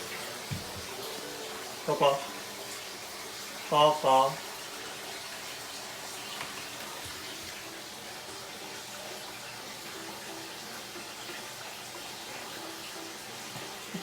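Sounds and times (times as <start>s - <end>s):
tap water running into bath: 0.0s - 14.0s.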